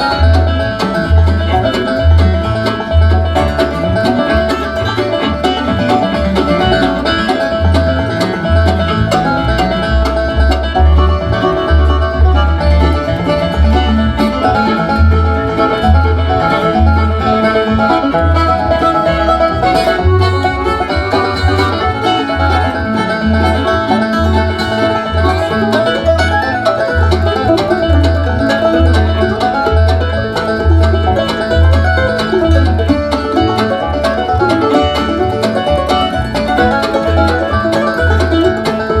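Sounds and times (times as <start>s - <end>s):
deep pulsing bass beat: 0.0s - 39.0s.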